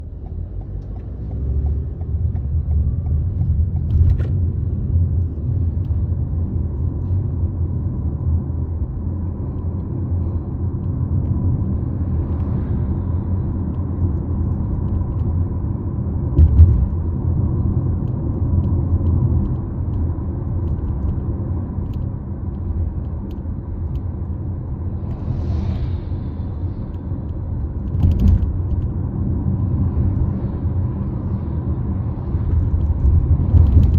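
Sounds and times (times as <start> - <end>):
road rumble inside car cabin: 0.0 - 33.9.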